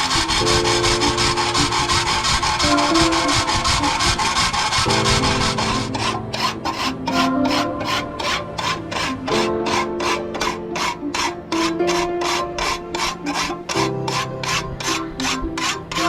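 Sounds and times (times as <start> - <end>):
file scraping metal: 0.0 - 16.0.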